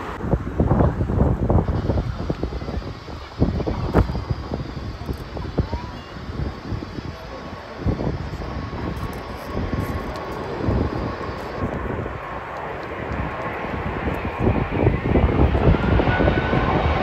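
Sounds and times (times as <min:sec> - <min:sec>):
faint engine whine: 0:00.0 - 0:17.0
jet engines running: 0:00.0 - 0:17.0
wind buffeting microphone: 0:00.0 - 0:17.0.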